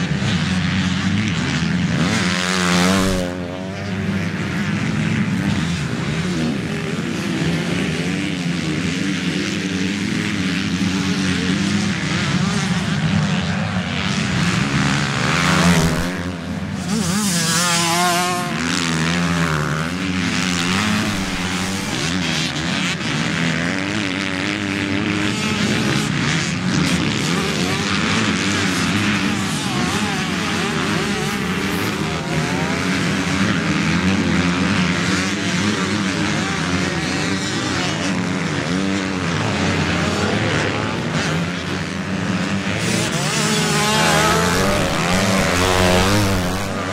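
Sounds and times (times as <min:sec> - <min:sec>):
motocross bike engines racing: 0:00.0 - 0:46.9.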